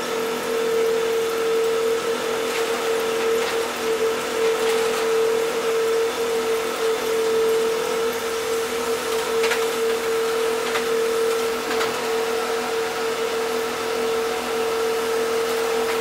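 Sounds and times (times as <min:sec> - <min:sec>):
machinery hum with whine: 0:00.0 - 0:16.0.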